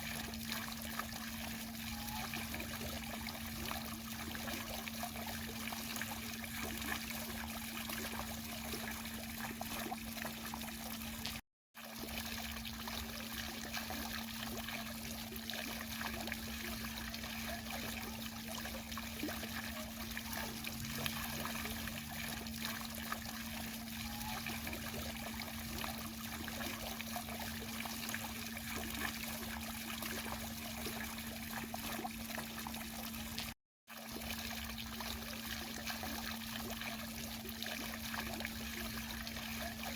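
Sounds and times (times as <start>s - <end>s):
fountain water splashing: 0.0s - 33.4s, 34.0s - 39.9s.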